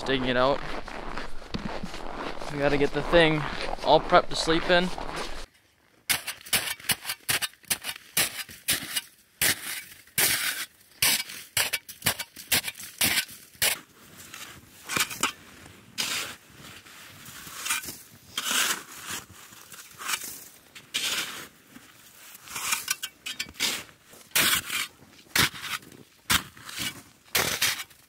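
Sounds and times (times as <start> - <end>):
snow crunching and scraping: 0.0 - 11.6, 12.2 - 28.0.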